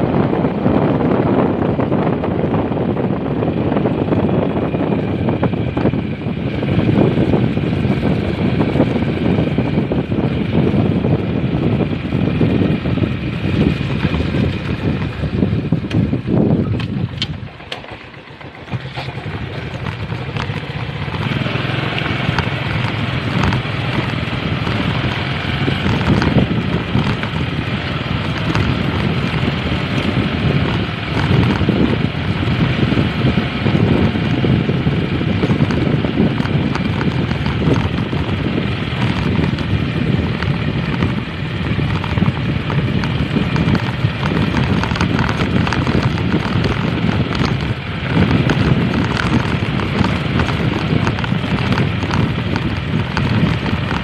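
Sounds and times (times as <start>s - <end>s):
motorcycle engine on dirt track: 0.0s - 54.0s.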